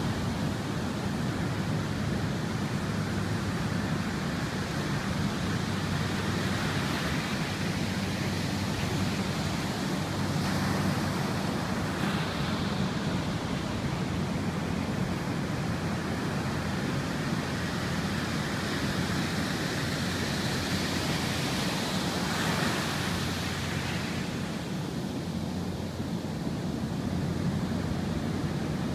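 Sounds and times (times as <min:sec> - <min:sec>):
ocean surf breaking: 0:00.0 - 0:28.9.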